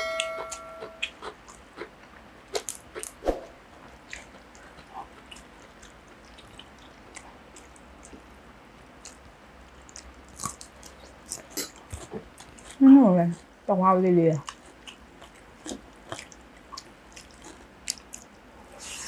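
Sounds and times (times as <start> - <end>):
chewing and mouth sounds: 1.0 - 3.2, 3.8 - 13.5, 14.4 - 19.0.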